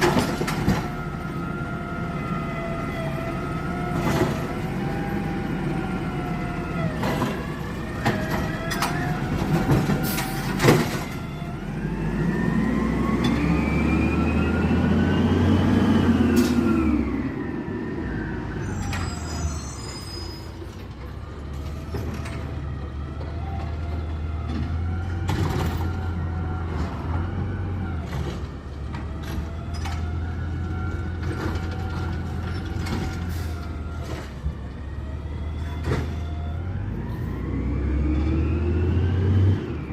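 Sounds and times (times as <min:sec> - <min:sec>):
garbage truck engine revving: 0:00.0 - 0:19.4, 0:22.7 - 0:39.9.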